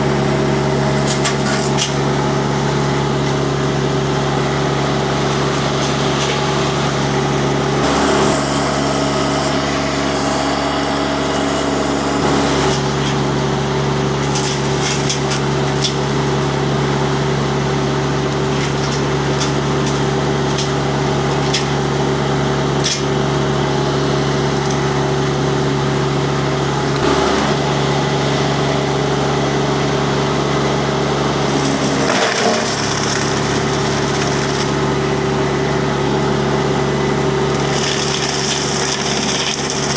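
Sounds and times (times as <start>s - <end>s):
diesel engine running under load: 0.0s - 39.9s
mulcher cracking and splintering wood: 0.9s - 27.6s, 31.3s - 35.0s, 37.4s - 39.9s.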